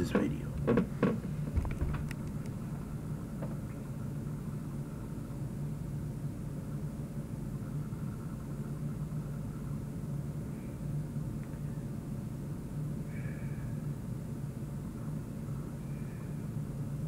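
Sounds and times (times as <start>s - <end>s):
low rumble with hum: 0.0s - 17.0s.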